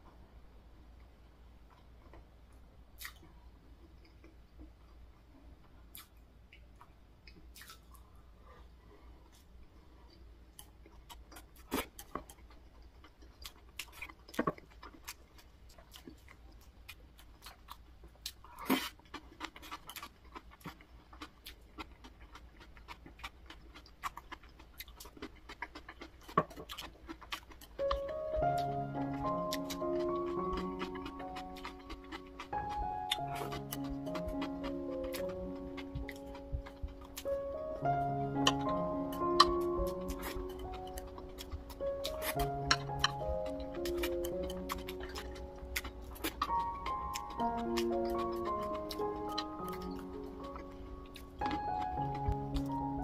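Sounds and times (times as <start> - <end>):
person chewing and biting: 3.0 - 5.0, 5.9 - 8.2, 10.1 - 53.0.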